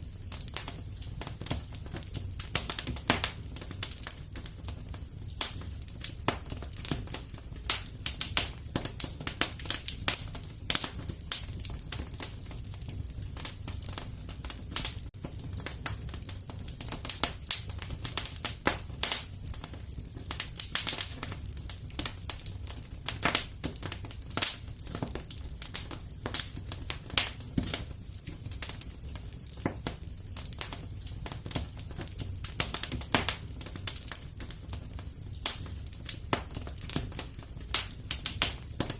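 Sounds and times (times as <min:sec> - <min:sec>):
low fire rumble: 0:00.0 - 0:38.9
wood fire crackling: 0:00.0 - 0:38.9.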